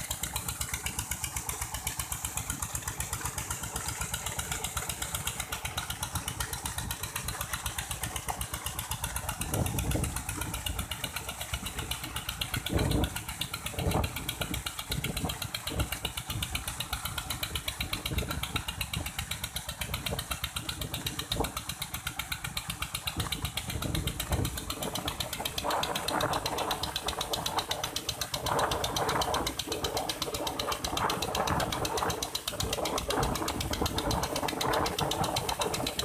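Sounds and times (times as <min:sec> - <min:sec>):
diesel engine running: 0:00.0 - 0:36.0
water rushing from pipe: 0:00.0 - 0:36.0.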